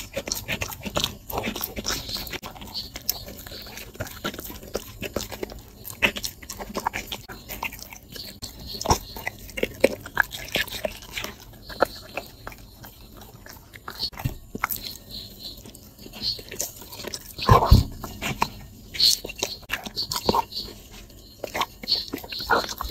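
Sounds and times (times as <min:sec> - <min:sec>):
dog chewing and crunching food: 0:00.0 - 0:22.9.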